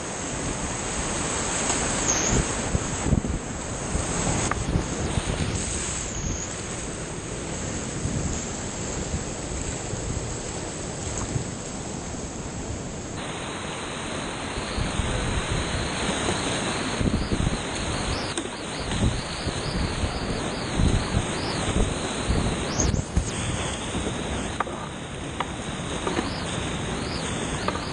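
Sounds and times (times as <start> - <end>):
creek whitewater rushing: 0.0 - 27.9
wind buffeting microphone: 0.0 - 27.9.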